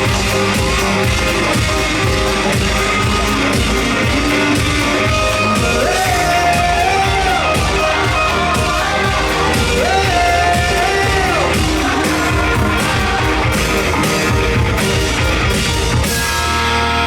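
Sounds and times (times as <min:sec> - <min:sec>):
person singing: 0:00.0 - 0:15.9
distorted guitars: 0:00.0 - 0:17.0
steady drum beat: 0:00.0 - 0:17.0.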